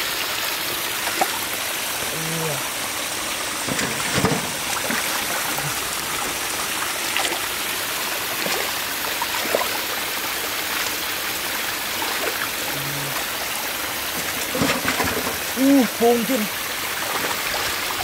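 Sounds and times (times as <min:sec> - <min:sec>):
stream water running: 0:00.0 - 0:18.0
fish splashing in water: 0:00.5 - 0:15.7, 0:16.5 - 0:18.0.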